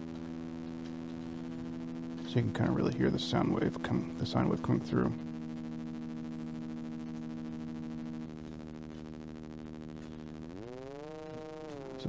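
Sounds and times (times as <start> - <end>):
synthesizer low tone: 0.0 - 12.0.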